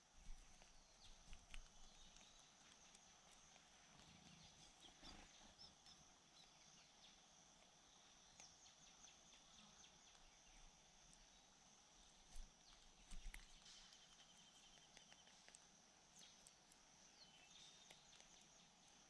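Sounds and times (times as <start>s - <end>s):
faint chirps: 0.0s - 19.0s.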